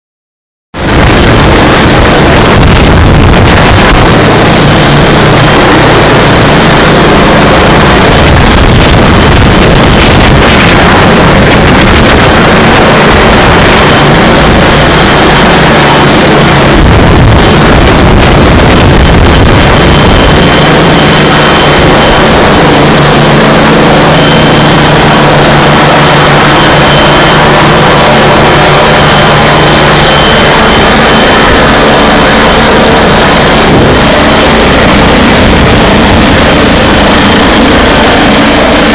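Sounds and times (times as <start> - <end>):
helicopter hovering: 0.7 - 38.9
faint high whine: 0.8 - 38.9.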